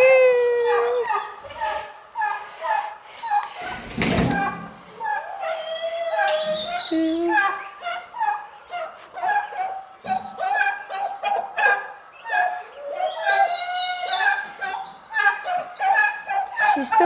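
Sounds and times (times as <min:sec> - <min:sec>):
young turkeys peeping: 0:00.0 - 0:17.0.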